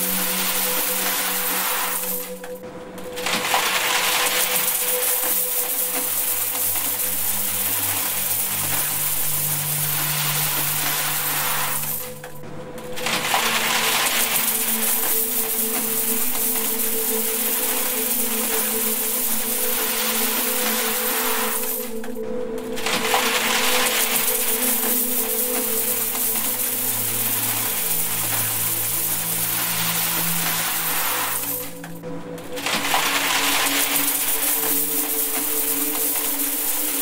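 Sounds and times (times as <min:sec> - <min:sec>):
coins pouring into metal box: 0:00.0 - 0:02.5, 0:03.2 - 0:12.4, 0:13.0 - 0:22.0, 0:22.8 - 0:31.9, 0:32.6 - 0:37.0.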